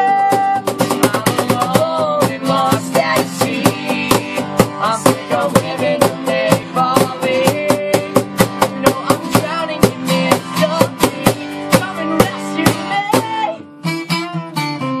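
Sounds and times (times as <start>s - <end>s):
people singing: 0.0s - 13.6s
cajon beat: 0.0s - 15.0s
strummed acoustic guitars: 0.0s - 15.0s.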